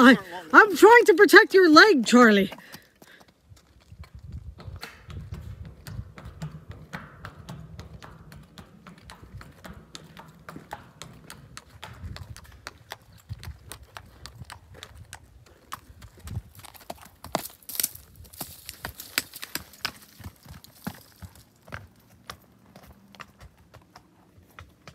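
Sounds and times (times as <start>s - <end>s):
hooves clip-clopping on footbridge: 0.0s - 24.9s.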